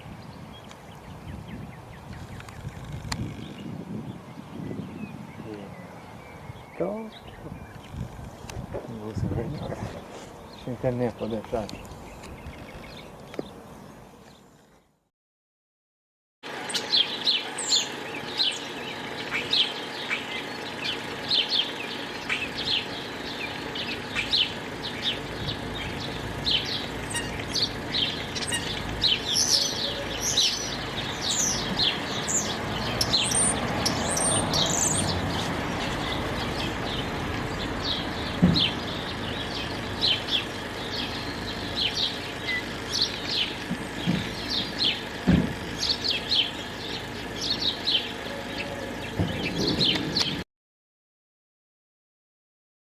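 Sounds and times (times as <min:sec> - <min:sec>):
small birds chirping: 0:00.0 - 0:15.0, 0:16.5 - 0:50.4.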